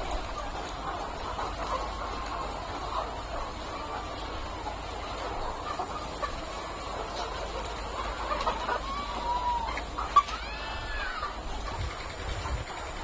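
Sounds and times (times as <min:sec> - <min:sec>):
chickens clucking: 0:00.0 - 0:13.0
drawn-out chicken call: 0:00.0 - 0:13.0.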